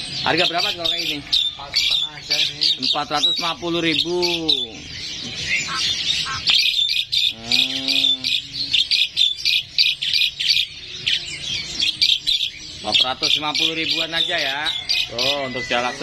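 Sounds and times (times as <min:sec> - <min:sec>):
drawn-out bird call: 0:00.0 - 0:16.0
songbirds chirping and twittering: 0:00.0 - 0:16.0.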